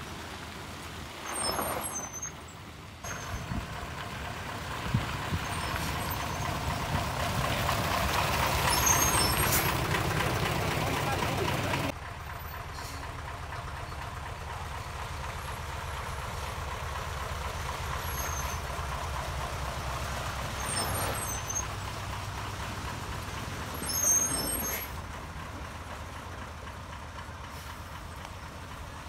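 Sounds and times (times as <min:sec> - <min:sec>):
diesel truck engine under load: 0:00.0 - 0:29.0.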